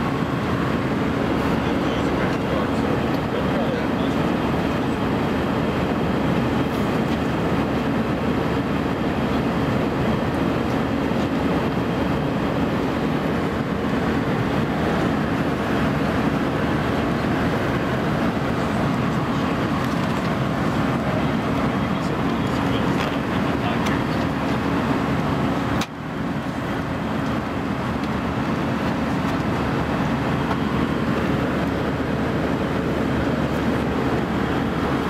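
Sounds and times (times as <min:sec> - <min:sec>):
aircraft cabin air rush and engine drone: 0:00.0 - 0:35.0.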